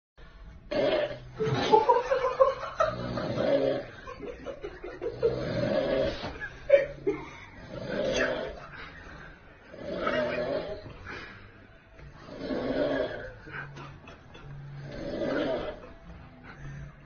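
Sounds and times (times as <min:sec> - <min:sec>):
man snoring loudly: 0:00.7 - 0:11.2, 0:12.1 - 0:16.2.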